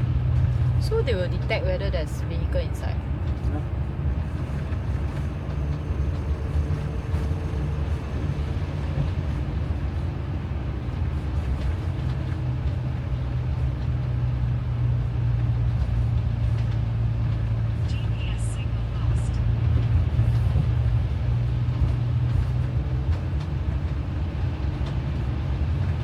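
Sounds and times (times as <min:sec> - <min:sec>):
engine and road rumble: 0:00.0 - 0:26.0.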